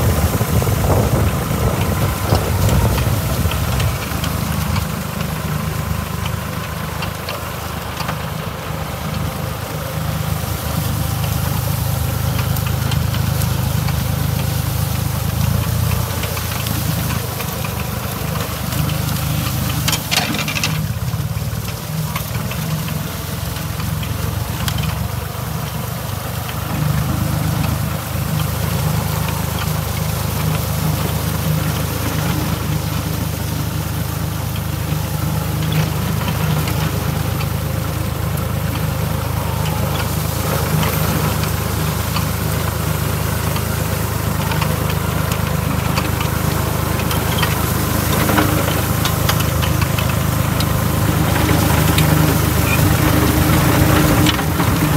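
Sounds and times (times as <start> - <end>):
rotovator tilling soil: 0.0 - 54.9
tractor diesel engine running: 0.0 - 54.9.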